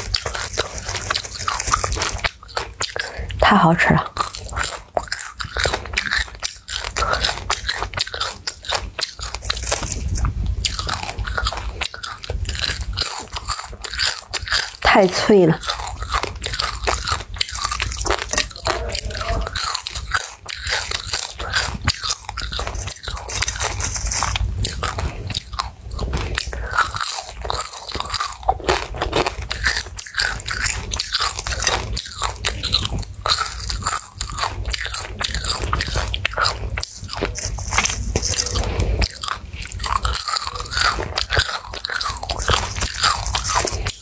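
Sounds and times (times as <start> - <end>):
chewing crunchy food: 0.0 - 44.0.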